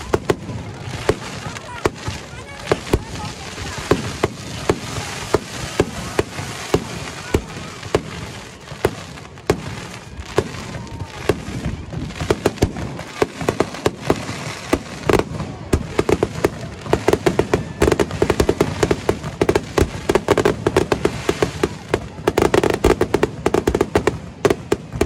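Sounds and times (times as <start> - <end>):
fireworks bangs and crackle: 0.0 - 25.0.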